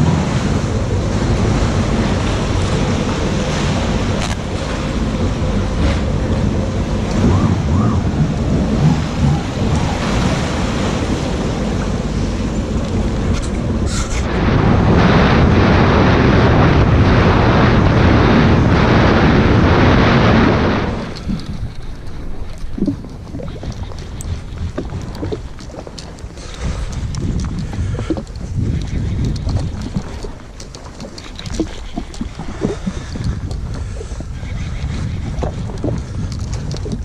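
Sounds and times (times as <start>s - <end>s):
sea water noise: 0.0s - 37.0s
wind on microphone: 0.0s - 37.0s.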